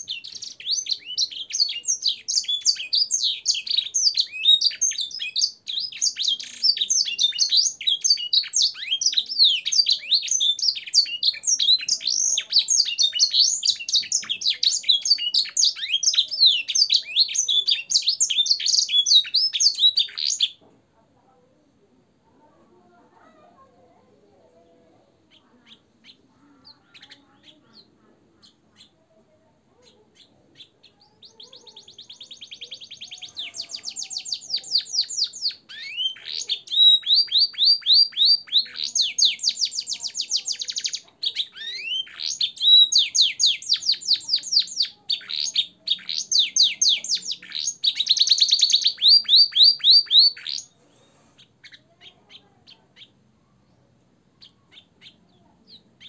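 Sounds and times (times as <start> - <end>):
soft bird chirps: 0.0 - 20.6, 24.4 - 56.0
canary singing: 0.0 - 20.7, 23.2 - 56.0.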